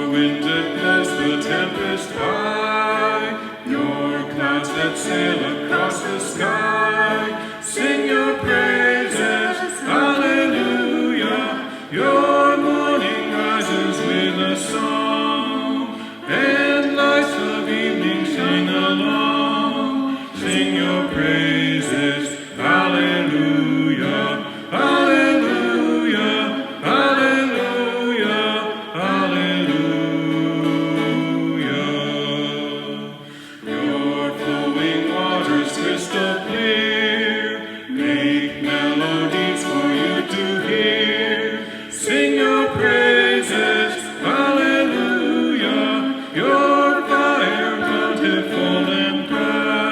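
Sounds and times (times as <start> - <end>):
voices singing in harmony: 0.0 - 49.9.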